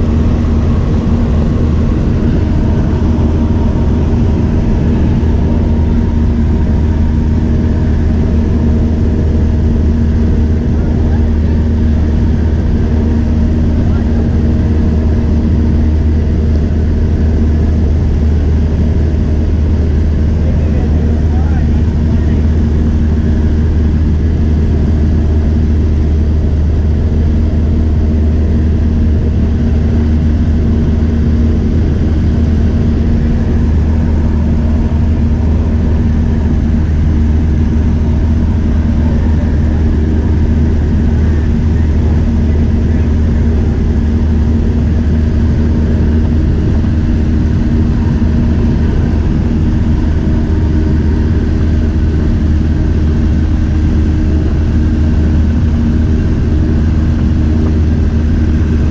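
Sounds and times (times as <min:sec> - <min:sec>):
light airplane engine drone: 0:00.0 - 0:58.9.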